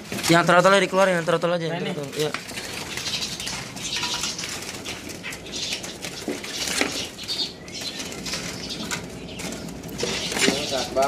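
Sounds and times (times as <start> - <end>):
rustling and scratching against bars: 0.0 - 11.0.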